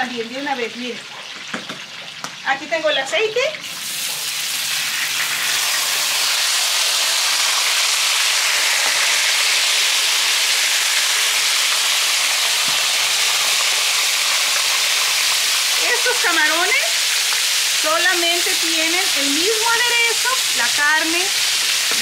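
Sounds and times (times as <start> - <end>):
shrimp sizzling in hot oil: 0.0 - 22.0.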